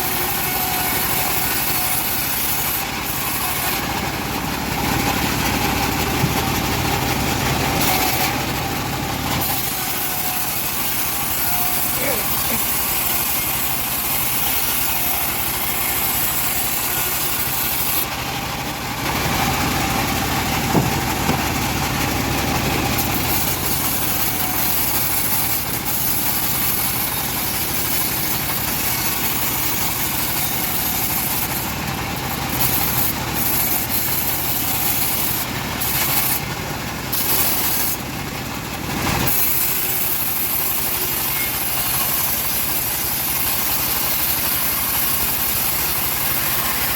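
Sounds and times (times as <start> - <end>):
bandsaw mill sawing a log: 0.0 - 46.9.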